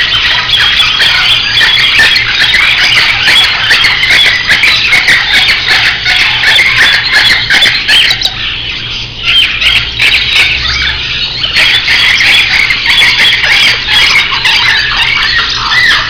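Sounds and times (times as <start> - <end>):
birds chirping and squawking: 0.0 - 16.0.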